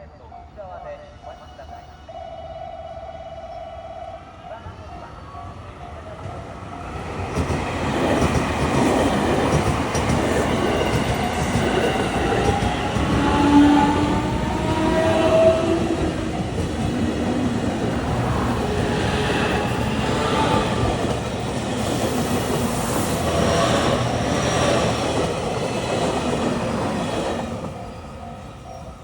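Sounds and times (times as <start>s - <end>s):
train wheels rumbling on rail: 4.6s - 29.0s.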